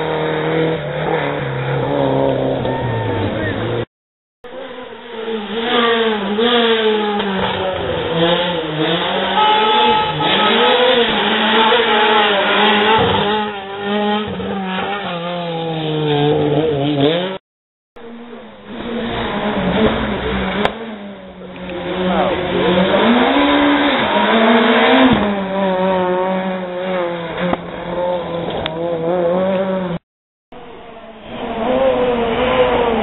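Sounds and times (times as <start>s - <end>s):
rally car engine revving: 0.0s - 17.4s, 18.0s - 30.0s, 30.6s - 33.0s.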